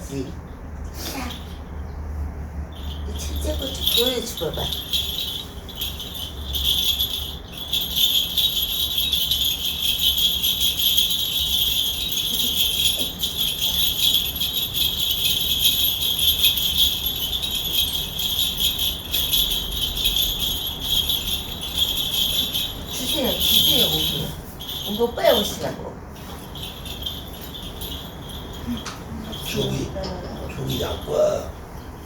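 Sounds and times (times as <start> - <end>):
hand bells jingling: 2.5 - 31.7.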